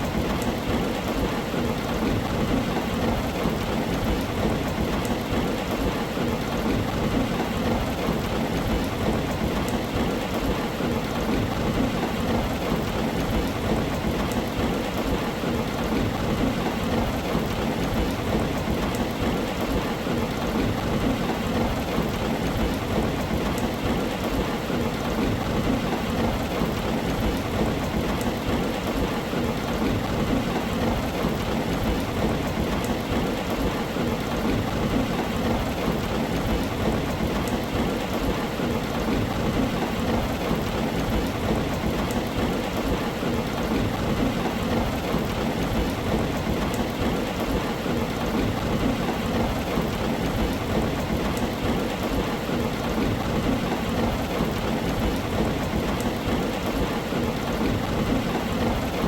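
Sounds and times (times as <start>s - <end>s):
continuous low rumble: 0.0s - 59.0s
heavy rain on a tin roof: 0.0s - 59.0s.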